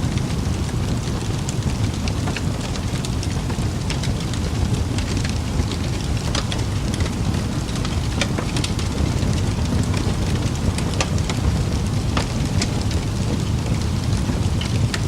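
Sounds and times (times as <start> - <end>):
fireplace crackling and popping: 0.0 - 15.0.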